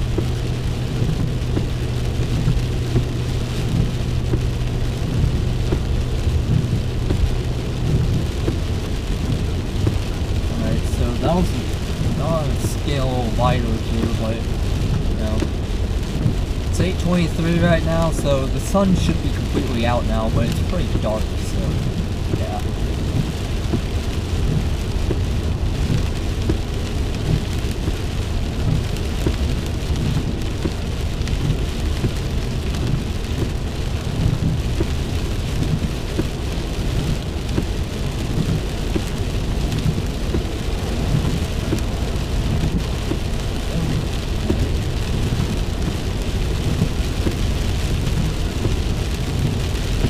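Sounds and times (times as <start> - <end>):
heavy rain drumming on car roof: 0.0 - 50.0.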